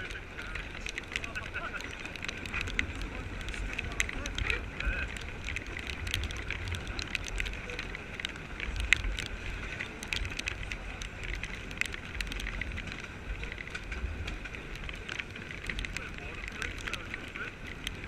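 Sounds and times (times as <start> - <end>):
low wind rumble: 0.0 - 18.0
rain pattering on camera: 0.0 - 18.0.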